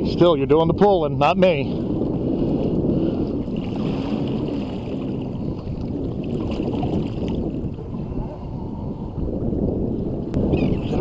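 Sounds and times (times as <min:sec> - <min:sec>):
water lapping against boat: 0:00.0 - 0:11.0
wind rumbling on microphone: 0:00.0 - 0:11.0.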